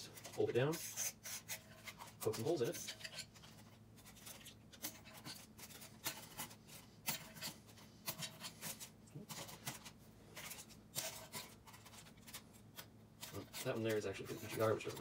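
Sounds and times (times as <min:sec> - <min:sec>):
aluminium foil crinkling and tearing: 0:00.0 - 0:15.0.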